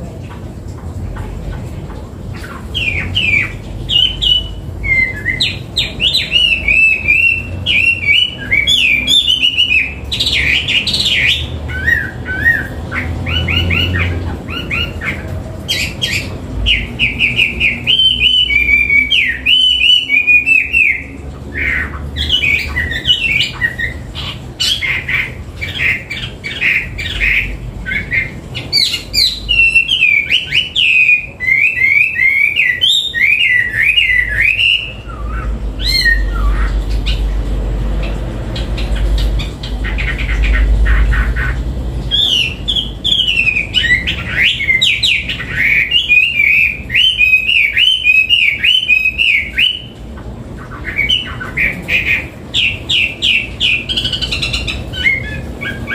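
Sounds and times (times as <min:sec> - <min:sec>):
bird singing varied song: 0:01.2 - 0:55.9.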